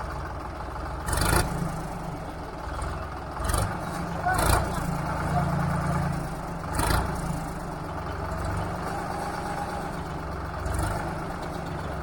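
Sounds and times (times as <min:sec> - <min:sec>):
tractor engine humming: 0:00.0 - 0:12.0.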